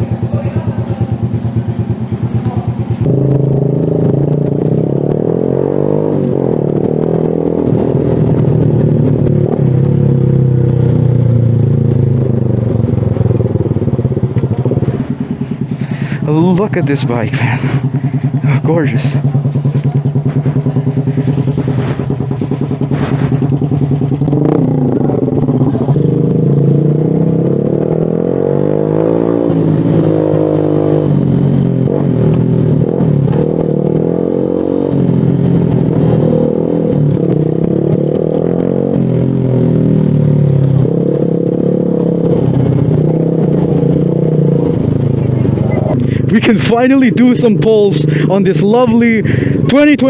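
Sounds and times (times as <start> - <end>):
motorcycle engine revving while riding: 0.0 - 50.0.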